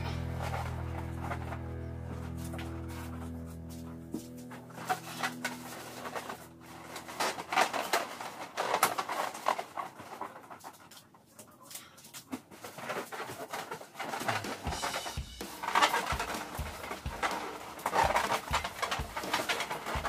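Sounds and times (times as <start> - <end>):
balloons squeaking and rustling: 0.0 - 20.0.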